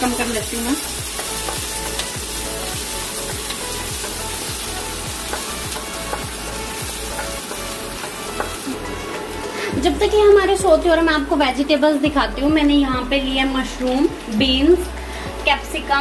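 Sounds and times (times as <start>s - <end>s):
spices sizzling in hot fat: 0.0s - 16.0s.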